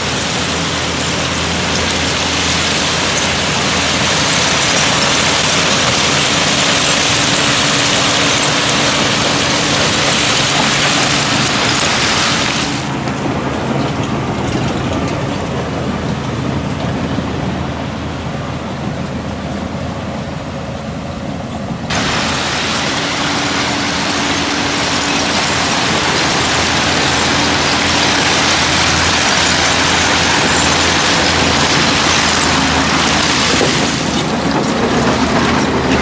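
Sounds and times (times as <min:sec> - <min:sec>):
heavy machinery diesel engine: 0:00.0 - 0:36.0
track and dirt noise: 0:00.0 - 0:36.0.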